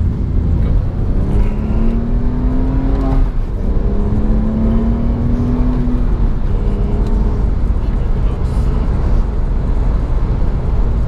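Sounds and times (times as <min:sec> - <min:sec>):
car engine accelerating hard: 0:00.0 - 0:11.0
tyre and road rumble: 0:00.0 - 0:11.0.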